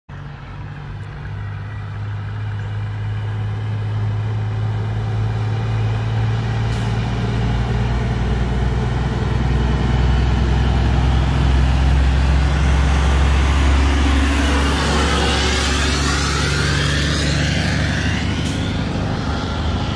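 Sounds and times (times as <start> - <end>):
truck diesel engine drone: 0.1 - 19.9
tyre and road noise: 0.1 - 19.9.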